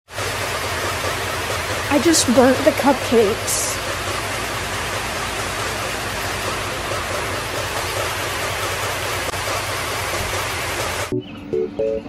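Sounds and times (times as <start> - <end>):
kitchen fan rushing and humming: 0.1 - 11.1.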